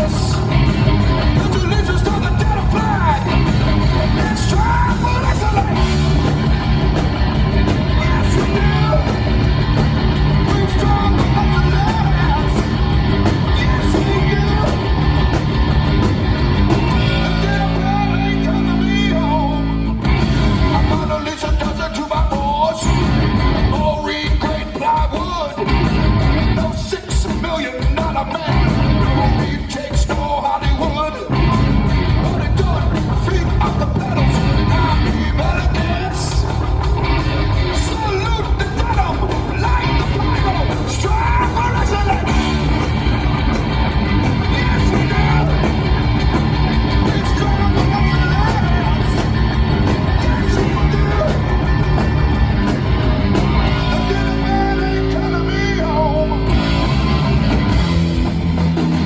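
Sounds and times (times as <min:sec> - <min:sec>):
person singing: 0:00.0 - 0:06.5, 0:07.4 - 0:15.1, 0:16.7 - 0:36.9, 0:37.6 - 0:56.9
rock band playing: 0:00.0 - 0:59.0.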